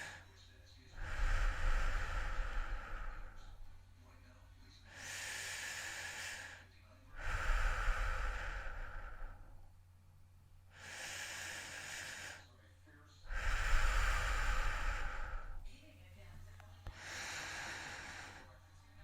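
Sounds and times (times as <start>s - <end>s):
heavy human breathing: 0.0s - 9.8s, 10.7s - 19.0s.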